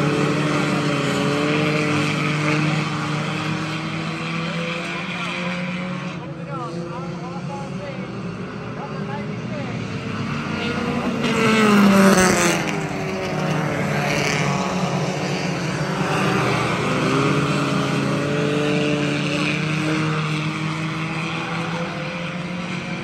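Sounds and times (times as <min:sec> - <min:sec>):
race car engines around track: 0:00.0 - 0:23.0
race car passing by: 0:00.0 - 0:23.0.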